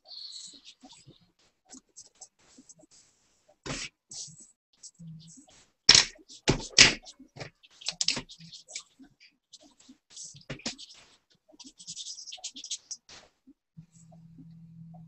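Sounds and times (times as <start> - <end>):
pencil scratching on paper: 0.2 - 13.4.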